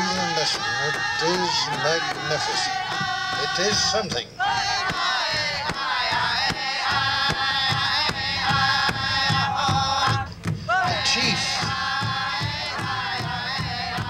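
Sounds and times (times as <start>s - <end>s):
repeated drum beats: 0.0s - 14.0s.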